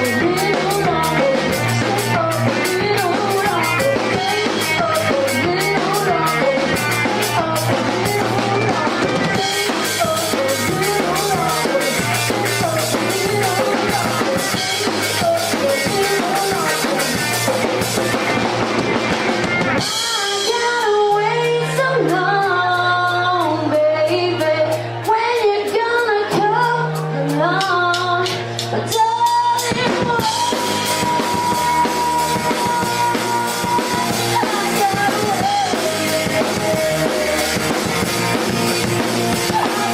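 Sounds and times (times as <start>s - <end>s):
person singing: 0.0s - 18.4s, 19.7s - 39.9s
live pop-rock band: 0.0s - 39.9s.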